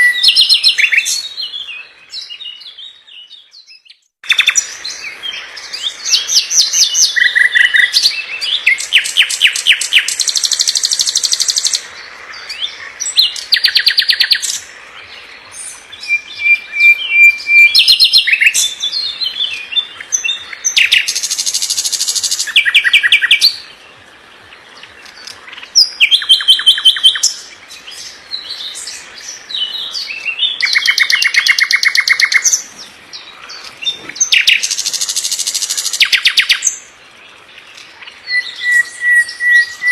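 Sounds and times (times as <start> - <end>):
songbird trilling and chattering: 3.7 - 23.7, 24.7 - 39.9.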